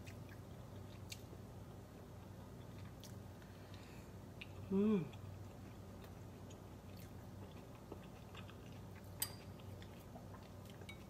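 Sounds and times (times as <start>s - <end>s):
faint chewing: 0.0s - 1.4s, 2.2s - 11.0s
low steady hum: 0.0s - 11.0s.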